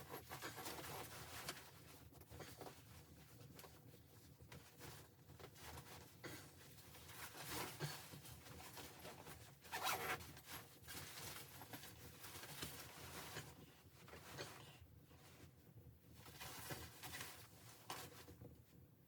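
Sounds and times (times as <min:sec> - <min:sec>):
fabric rustling and scraping: 0:00.0 - 0:14.6, 0:15.2 - 0:18.6.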